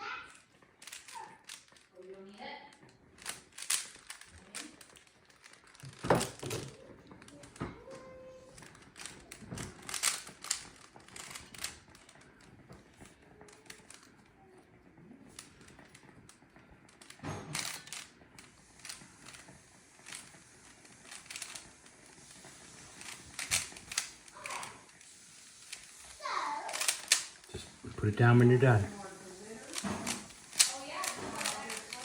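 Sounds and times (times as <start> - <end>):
puzzle cube clicking and rattling: 0.3 - 1.9, 2.7 - 32.0.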